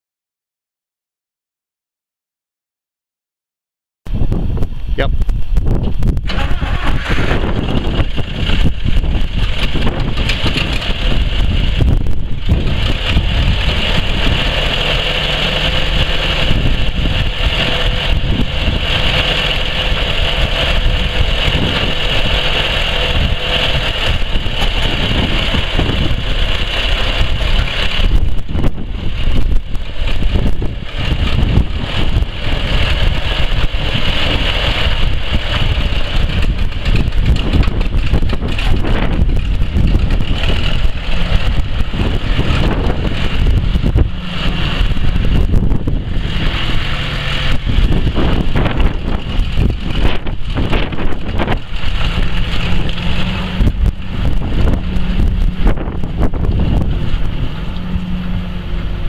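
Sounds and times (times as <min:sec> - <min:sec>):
tractor engine idling: 0:06.0 - 0:59.0.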